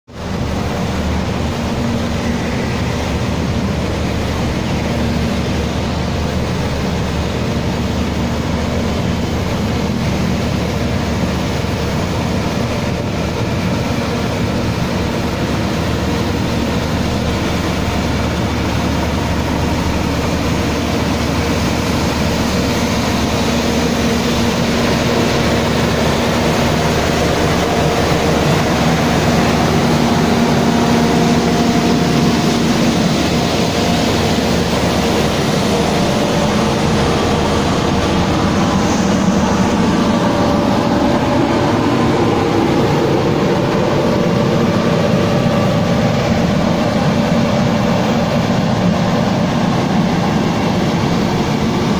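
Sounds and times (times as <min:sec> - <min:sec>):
heavy engine hum: 0:00.0 - 0:51.9
loud rushing noise: 0:00.1 - 0:51.9.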